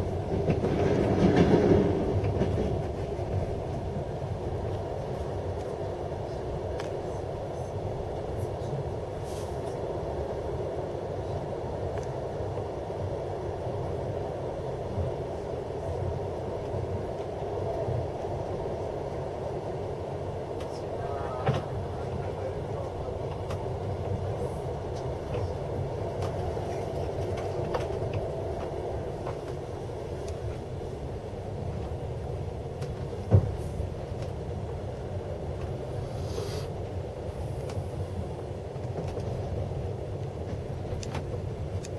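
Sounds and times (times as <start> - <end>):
train rumbling inside carriage: 0.0 - 41.9.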